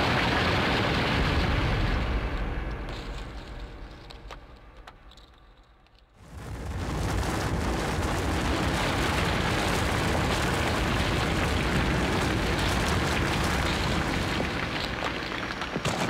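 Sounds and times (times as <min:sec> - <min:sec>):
loud dense rumbling: 0:00.0 - 0:04.7, 0:06.2 - 0:16.0.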